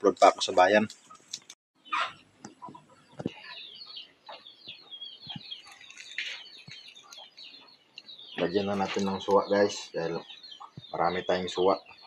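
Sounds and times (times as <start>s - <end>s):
birds peeping chirps: 0.0s - 12.0s.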